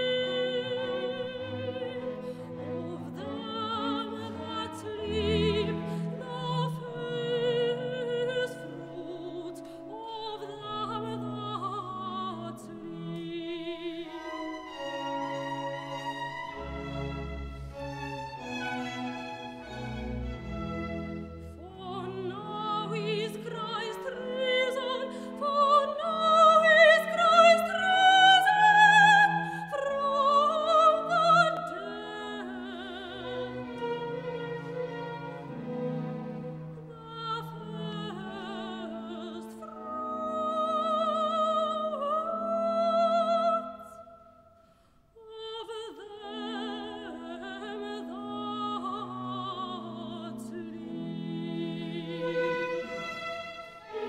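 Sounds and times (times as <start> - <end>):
orchestra with strings: 0.0 - 43.4, 46.4 - 54.0.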